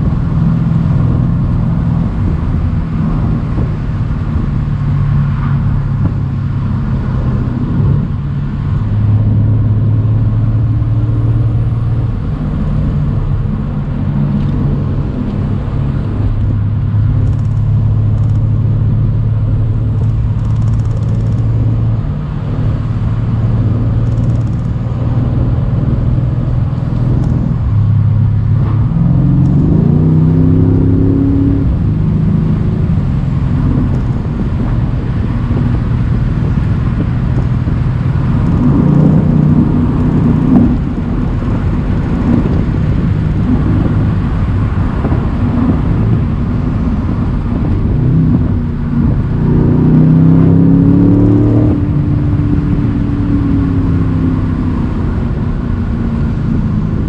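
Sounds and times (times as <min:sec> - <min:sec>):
car engine cruising: 0:00.0 - 0:57.0
car engine revving up: 0:00.0 - 0:57.0.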